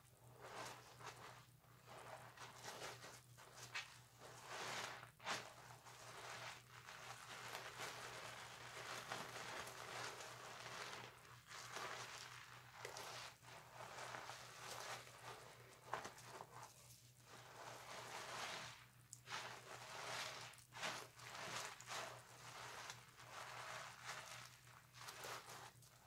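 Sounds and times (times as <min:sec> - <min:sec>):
loofah scrubbing soap: 0:00.1 - 0:26.0.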